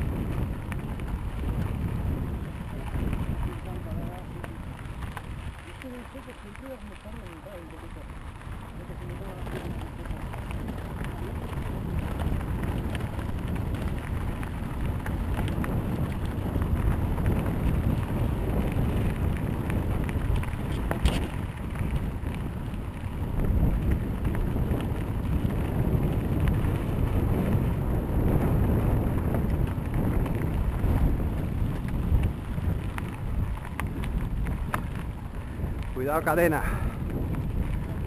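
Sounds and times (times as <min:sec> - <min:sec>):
bike rattling and knocking: 0:00.0 - 0:38.0
bike tyre rumble: 0:00.0 - 0:38.0
wind on microphone: 0:00.0 - 0:38.0.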